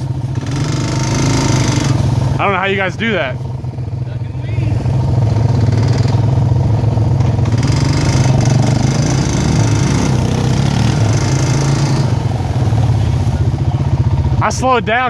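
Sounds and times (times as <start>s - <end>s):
atv engines running: 0.0s - 15.0s.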